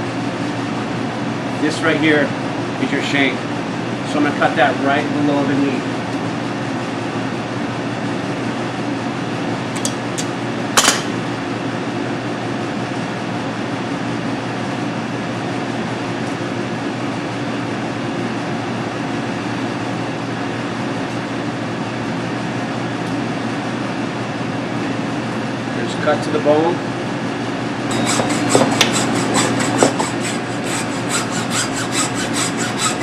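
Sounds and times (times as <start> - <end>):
ventilation hum: 0.0 - 33.0.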